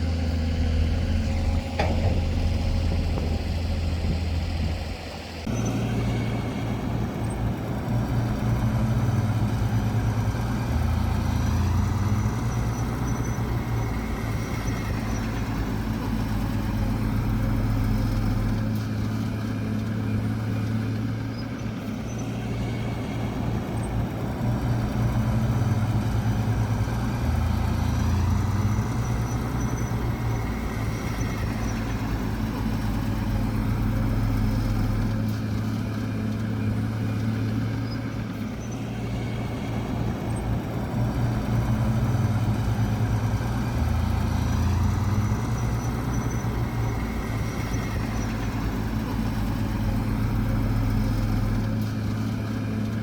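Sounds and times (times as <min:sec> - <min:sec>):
diesel machinery engine hum: 0:00.0 - 0:53.0.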